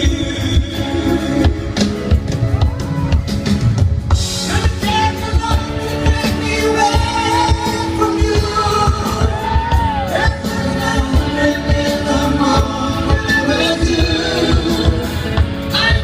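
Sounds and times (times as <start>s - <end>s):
lead singer: 0.0s - 16.0s
live pop-rock band: 0.0s - 16.0s
steady drum beat: 0.0s - 16.0s.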